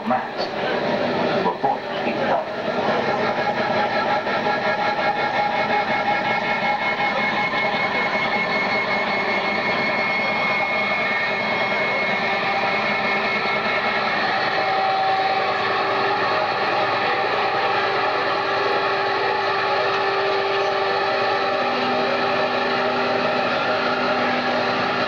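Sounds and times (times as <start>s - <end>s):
amplified band drone: 0.0s - 25.0s.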